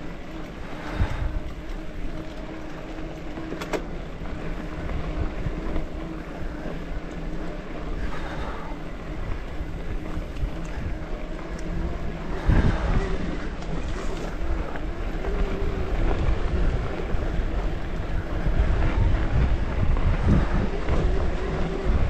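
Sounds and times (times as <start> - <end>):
bike tyres rumbling on dirt: 0.0 - 22.0
wind buffeting microphone: 0.0 - 22.0.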